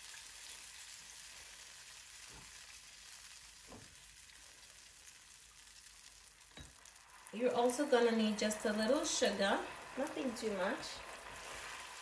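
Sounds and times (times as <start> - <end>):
glaze sizzling in a pan: 0.0 - 12.0.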